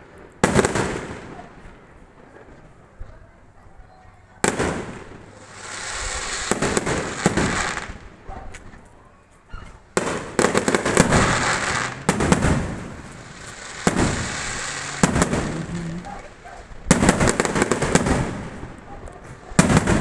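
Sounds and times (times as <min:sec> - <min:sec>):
fireworks bangs and crackle: 0:00.0 - 0:03.2, 0:04.4 - 0:08.8, 0:09.7 - 0:20.0.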